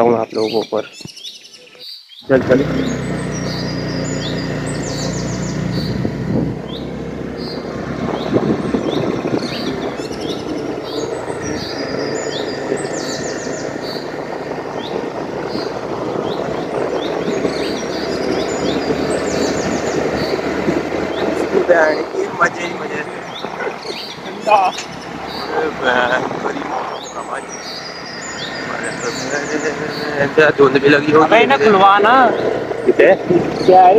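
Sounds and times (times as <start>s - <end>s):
birds chirping and trilling: 0.0s - 33.9s
vehicle engine and road noise: 1.8s - 33.9s.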